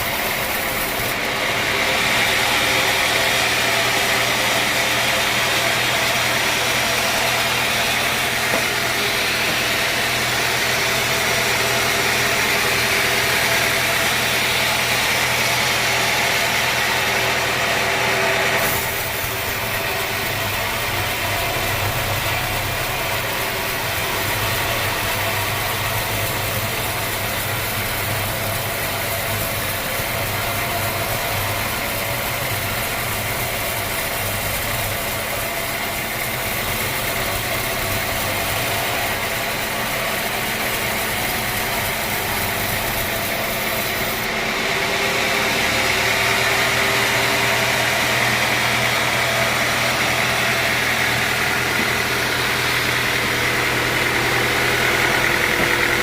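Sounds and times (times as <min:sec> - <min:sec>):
loud machinery hiss: 0:00.0 - 0:56.0
sawmill engine hum: 0:00.0 - 0:56.0.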